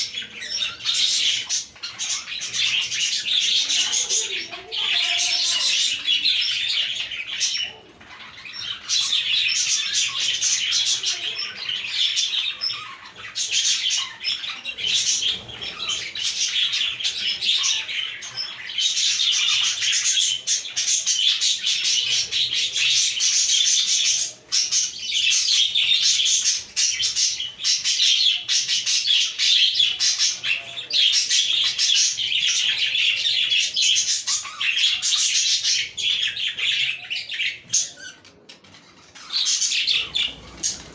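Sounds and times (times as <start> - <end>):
budgies chirping and warbling: 0.0 - 40.9.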